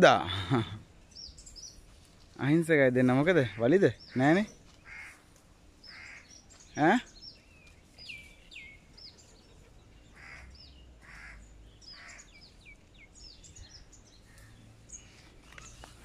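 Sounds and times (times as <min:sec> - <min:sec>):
harsh bird calls: 0:02.4 - 0:16.0.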